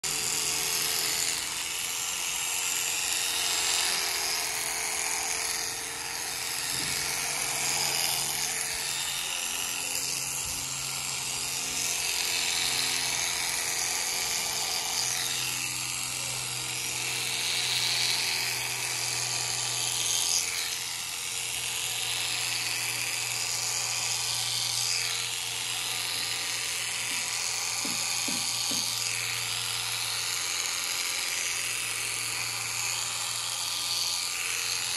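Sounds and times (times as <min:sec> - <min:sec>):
electric shears buzzing: 0:00.0 - 0:34.9.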